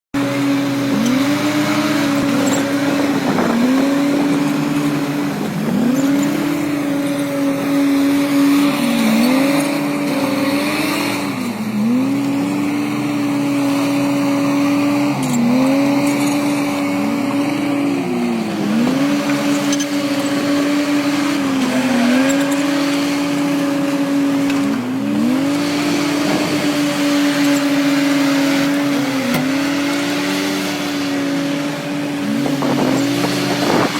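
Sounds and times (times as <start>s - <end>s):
diesel engine running hard: 0.1s - 33.9s.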